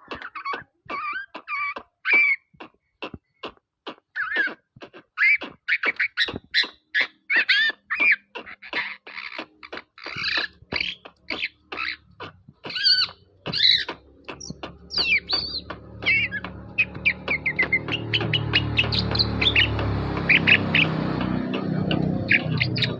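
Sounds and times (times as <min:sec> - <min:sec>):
bird chattering song: 0:00.0 - 0:22.9.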